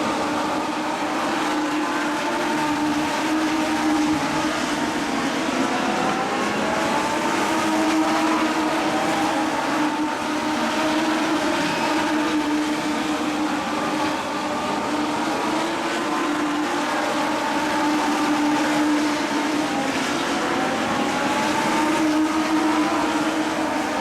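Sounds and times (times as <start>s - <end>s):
motorcycle engines at high revs: 0.0s - 24.0s.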